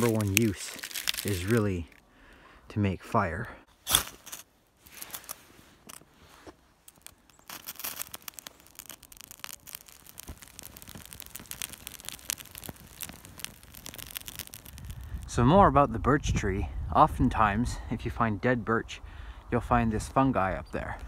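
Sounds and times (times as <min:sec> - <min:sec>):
birch bark crackling in fire: 0:00.0 - 0:21.0.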